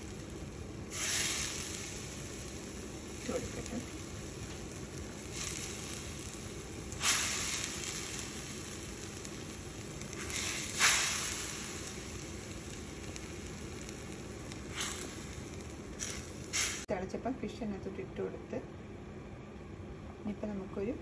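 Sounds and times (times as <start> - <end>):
curry boiling in a pot: 0.0 - 16.9.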